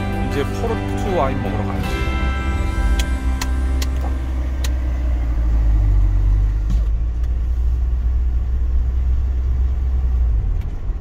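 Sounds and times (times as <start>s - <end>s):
tyres on road: 0.0s - 11.0s
van engine rumble: 0.0s - 11.0s.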